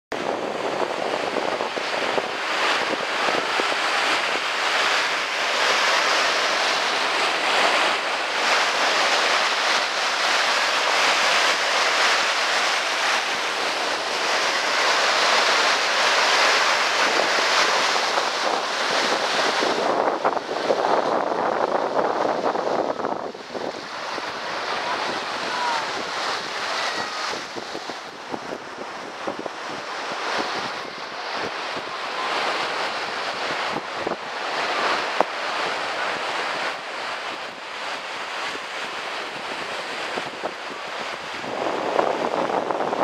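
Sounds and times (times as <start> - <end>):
wind: 0.1 - 43.0
small waves breaking on beach: 0.2 - 43.0.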